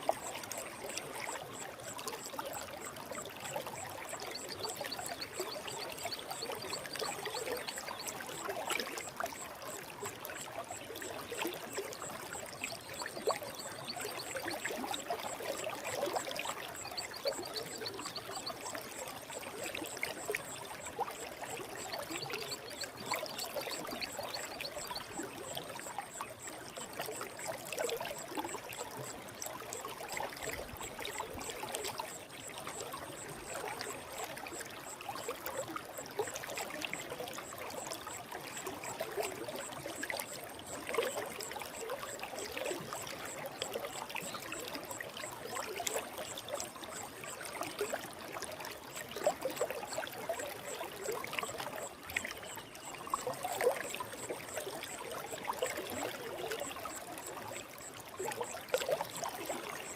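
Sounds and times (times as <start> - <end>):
water gurgles and splashes: 0.0 - 59.9.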